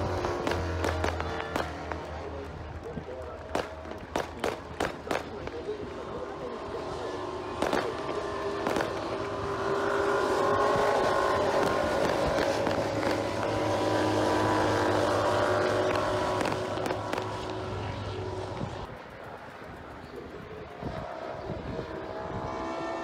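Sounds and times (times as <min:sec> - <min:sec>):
motorcycle engines passing: 0:00.0 - 0:23.0.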